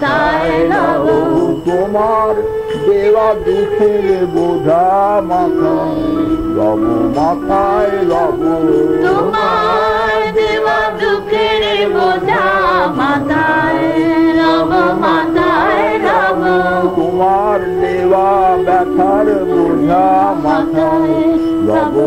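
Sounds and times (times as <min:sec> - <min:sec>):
person singing ornamented melody: 0:00.0 - 0:22.0
steady held drone: 0:00.0 - 0:22.0.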